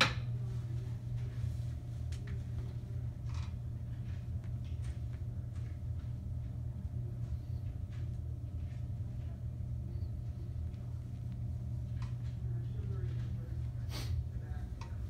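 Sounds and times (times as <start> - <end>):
low room tone hum: 0.0 - 15.0.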